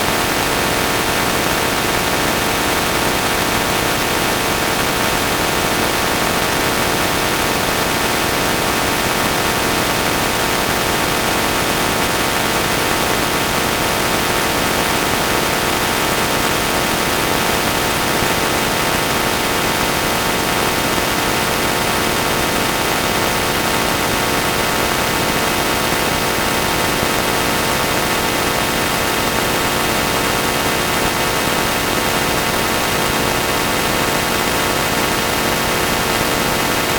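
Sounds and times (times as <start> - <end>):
distorted static noise: 0.0 - 36.9.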